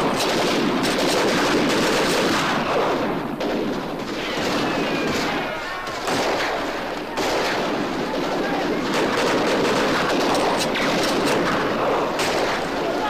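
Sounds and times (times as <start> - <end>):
continuous gunfire: 0.0 - 13.0.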